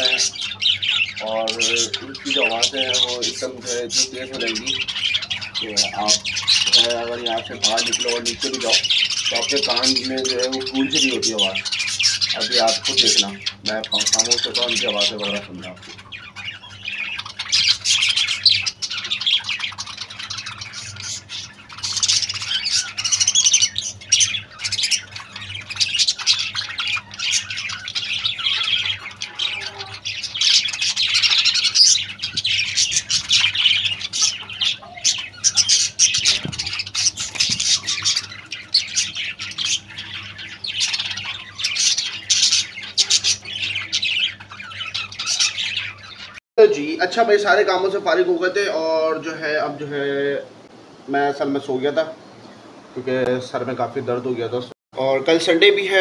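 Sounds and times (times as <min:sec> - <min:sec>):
parrots chattering and squawking: 0:00.0 - 0:49.8.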